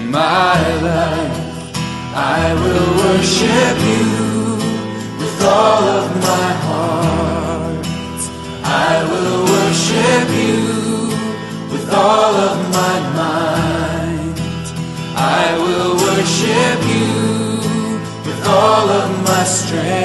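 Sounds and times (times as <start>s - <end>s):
song with singing and chords: 0.0s - 20.0s.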